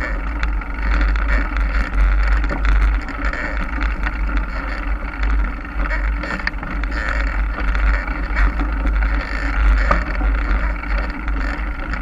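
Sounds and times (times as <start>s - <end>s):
bike clicks and rattles: 0.0s - 12.0s
bike tyres rolling on trail: 0.0s - 12.0s
wind buffeting microphone: 0.0s - 12.0s.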